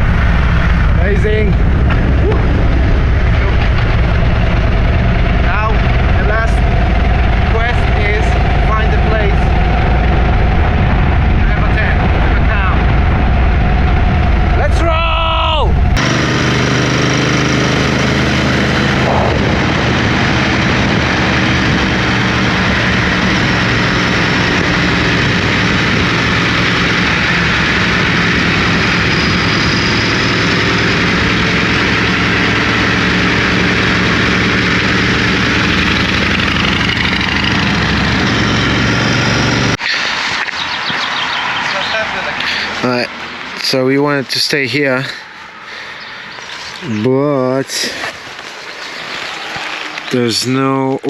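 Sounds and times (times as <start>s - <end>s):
motorcycle engine cruising: 0.0s - 51.0s
wind and road noise: 0.0s - 51.0s.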